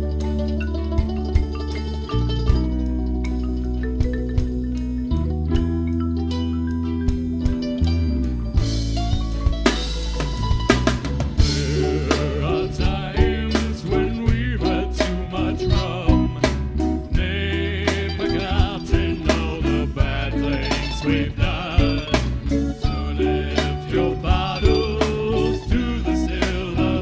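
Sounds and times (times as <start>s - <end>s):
band playing: 0.0s - 27.0s
drum kit beating: 0.0s - 27.0s.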